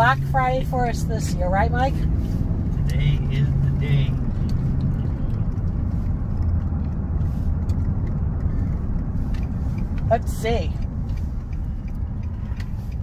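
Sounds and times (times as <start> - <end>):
engine and road noise inside vehicle: 0.0 - 13.0.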